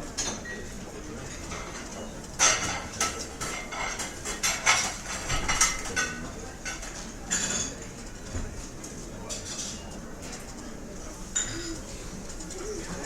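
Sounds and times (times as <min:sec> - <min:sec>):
restaurant background hum: 0:00.0 - 0:13.0
dishes and cutlery clattering: 0:00.2 - 0:00.6, 0:01.3 - 0:08.5, 0:09.2 - 0:10.5, 0:11.3 - 0:13.0.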